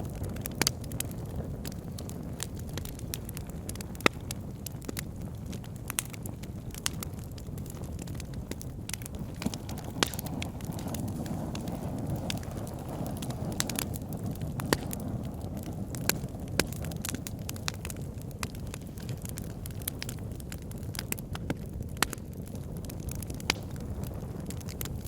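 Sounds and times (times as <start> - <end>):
fire flames rushing: 0.0 - 25.0
wood crackling and popping: 0.0 - 25.0.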